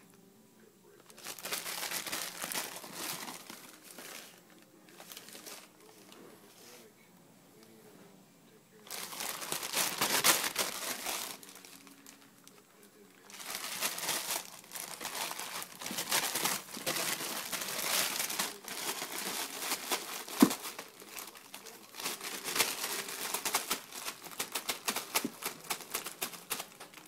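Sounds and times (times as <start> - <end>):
plastic bag crinkling: 1.0 - 6.1, 8.8 - 27.0.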